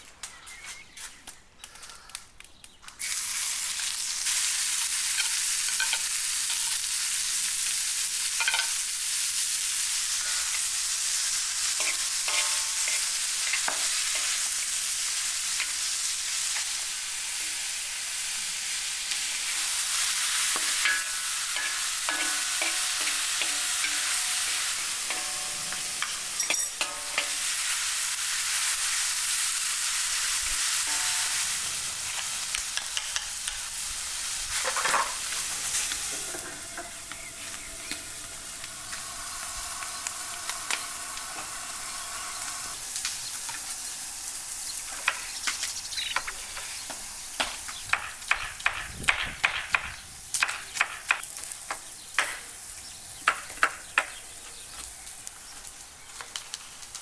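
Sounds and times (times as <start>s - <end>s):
food sizzling in hot oil: 3.0s - 54.0s.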